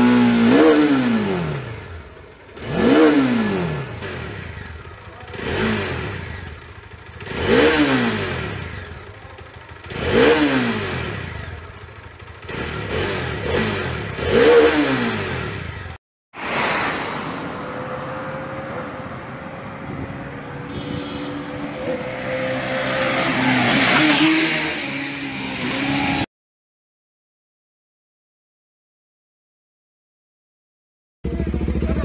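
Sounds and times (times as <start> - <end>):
motorcycle engine revving: 0.0 - 26.3, 31.2 - 32.0.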